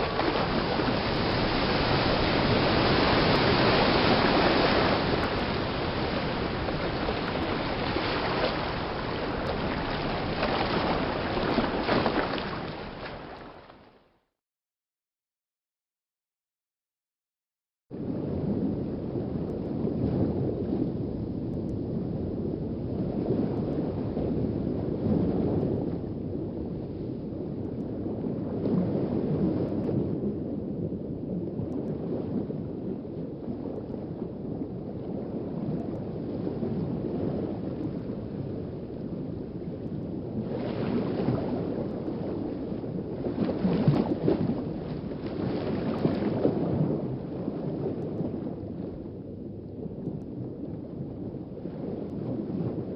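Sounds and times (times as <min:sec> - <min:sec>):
muffled underwater water wash: 0:00.0 - 0:14.2, 0:18.0 - 0:52.9.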